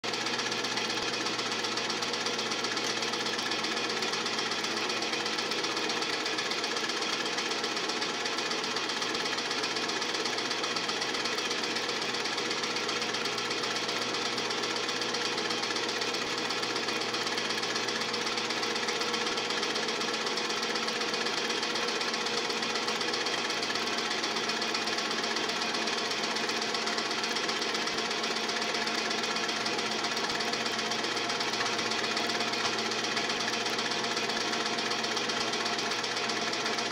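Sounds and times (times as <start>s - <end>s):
film projector clattering: 0.1s - 36.9s.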